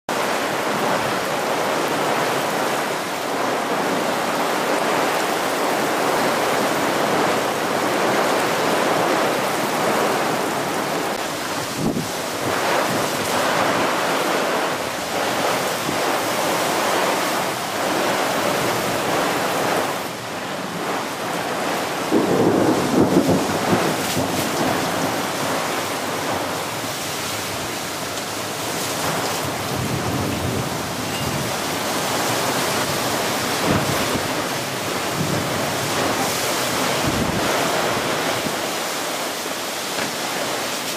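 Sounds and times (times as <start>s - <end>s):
heavy rain hissing: 0.1s - 40.9s
thunder rumble: 4.7s - 38.7s.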